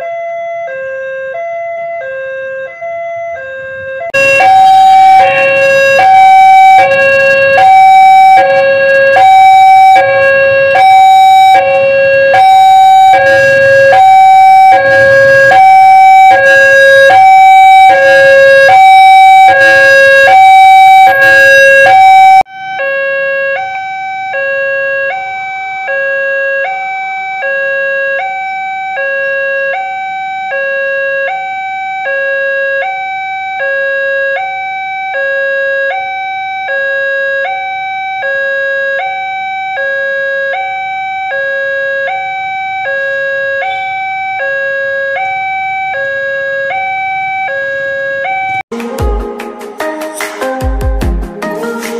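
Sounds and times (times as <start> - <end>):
level crossing two-tone alarm: 0.0 - 48.6.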